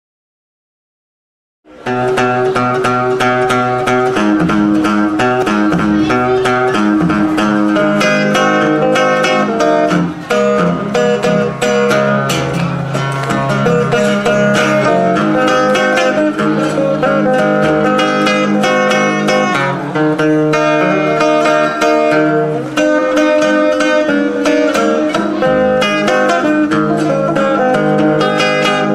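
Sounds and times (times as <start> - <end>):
acoustic guitar fingerpicking: 1.7 - 28.9.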